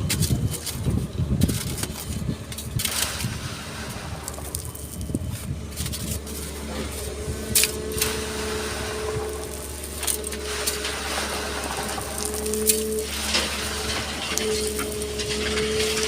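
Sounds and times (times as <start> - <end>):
excavator engine running: 0.0 - 16.0
hydraulic whine: 1.0 - 16.0.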